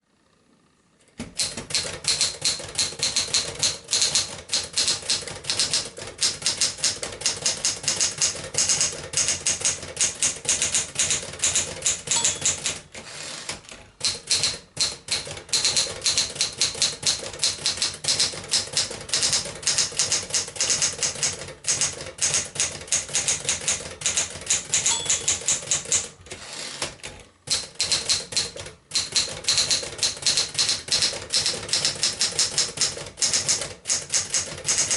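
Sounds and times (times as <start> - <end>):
typewriter key strikes: 1.2 - 13.0, 14.0 - 26.2, 27.5 - 34.9.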